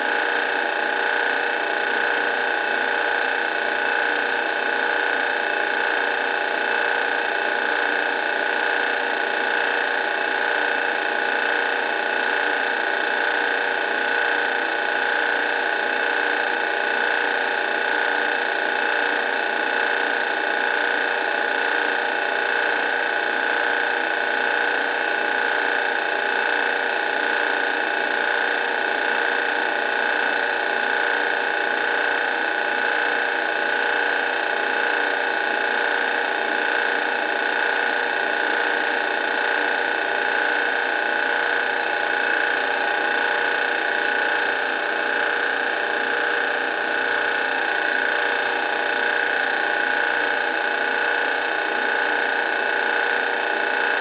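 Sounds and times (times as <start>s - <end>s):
drill press whining into steel: 0.0s - 54.0s.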